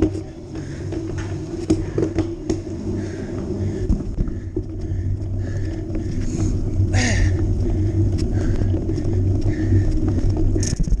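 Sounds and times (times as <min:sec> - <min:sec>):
bike riding over sand: 0:00.0 - 0:11.0.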